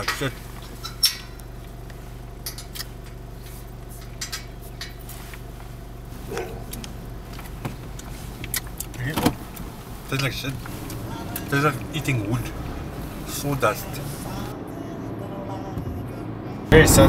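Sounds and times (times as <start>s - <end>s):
small things clicking and rustling: 0.0s - 14.5s
steady low hum: 0.0s - 17.0s.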